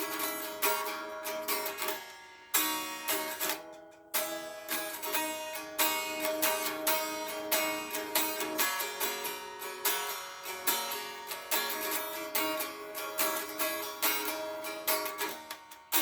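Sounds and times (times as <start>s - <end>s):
guitar strummed: 0.0s - 16.0s.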